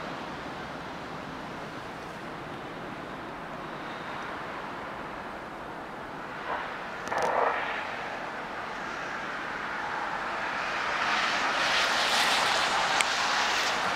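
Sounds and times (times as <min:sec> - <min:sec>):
jet aircraft passing overhead: 0:00.0 - 0:13.9.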